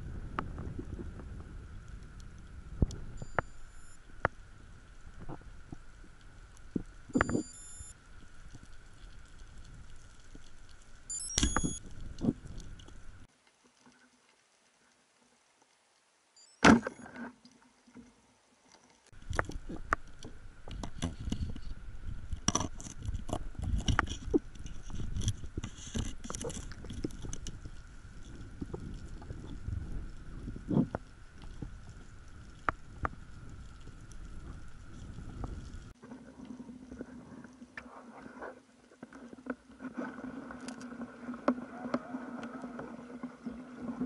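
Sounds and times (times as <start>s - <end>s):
dense crackle of small clicks: 0.0s - 16.6s, 17.4s - 44.0s
faint steady whine: 0.0s - 44.0s.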